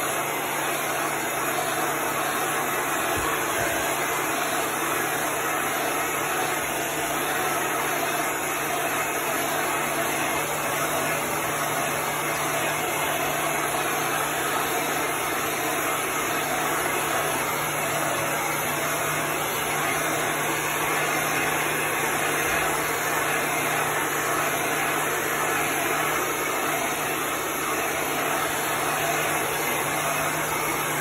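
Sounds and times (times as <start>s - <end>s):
heat gun blowing air: 0.0s - 31.0s.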